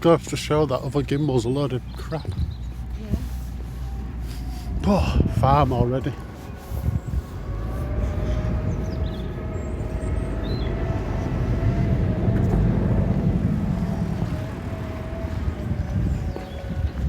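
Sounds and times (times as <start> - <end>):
vehicle engine rumble: 0.0 - 17.0
steady drone: 3.0 - 17.0.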